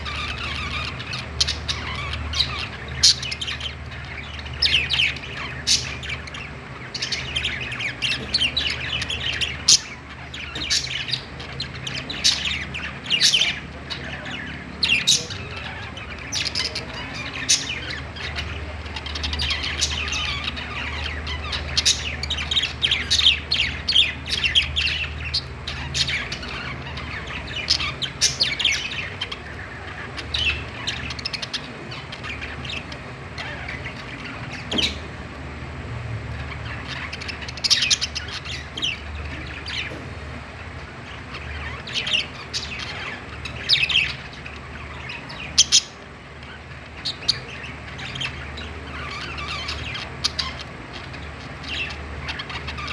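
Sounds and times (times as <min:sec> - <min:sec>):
budgies chirping and squawking: 0:00.0 - 0:52.9
steady low hum: 0:00.0 - 0:52.9.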